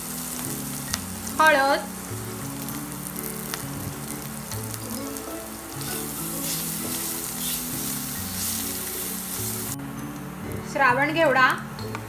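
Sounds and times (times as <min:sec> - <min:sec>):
spatula stirring spices: 0:00.0 - 0:09.8
spices sizzling in hot oil: 0:00.0 - 0:09.8.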